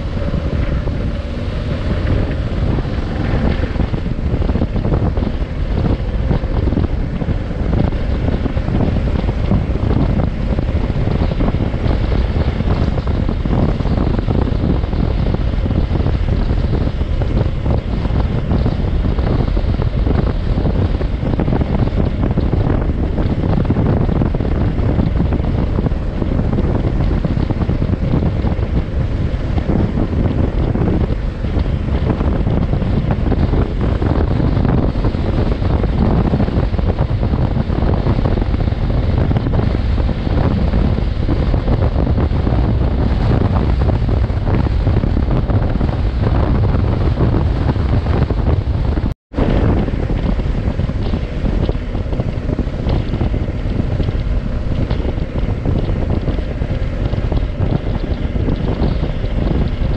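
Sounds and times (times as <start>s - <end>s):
motorcycle running: 0.0s - 59.9s
road noise: 0.0s - 59.9s
wind buffeting microphone: 0.0s - 59.9s.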